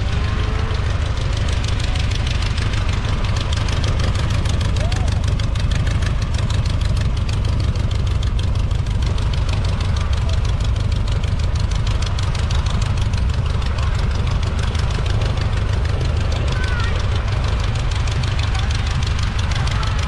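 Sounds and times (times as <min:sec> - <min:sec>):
air sled engine idling: 0:00.0 - 0:20.0.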